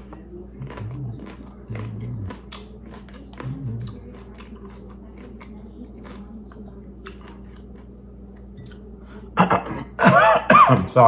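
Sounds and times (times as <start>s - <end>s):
chewing crunchy broccoli: 0.0s - 9.8s.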